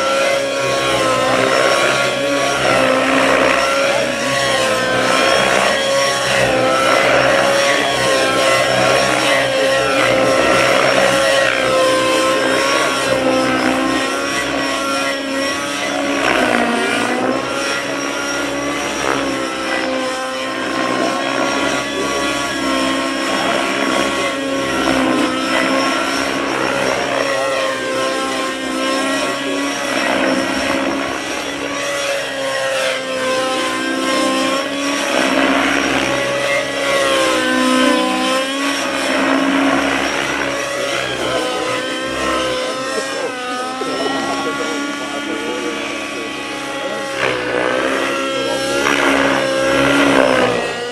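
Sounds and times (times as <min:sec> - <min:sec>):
model helicopter whine: 0:00.0 - 0:50.9.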